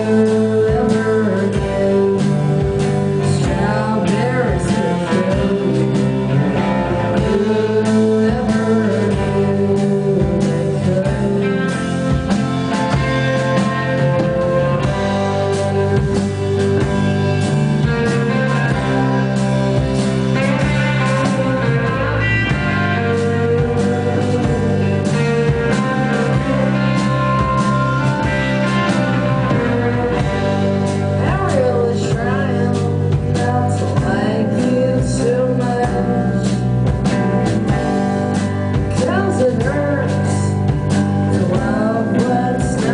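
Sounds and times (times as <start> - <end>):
bent guitar notes: 0.0 - 42.9
rock band playing live: 0.0 - 42.9.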